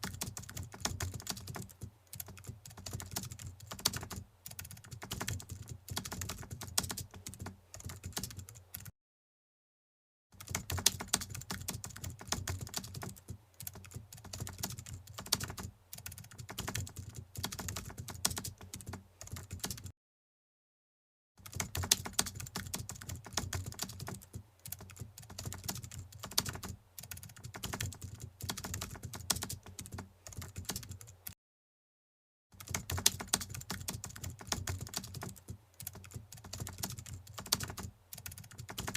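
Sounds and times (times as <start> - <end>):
keyboard typing: 0.0 - 8.9, 10.4 - 19.9, 21.4 - 31.4, 32.6 - 38.9.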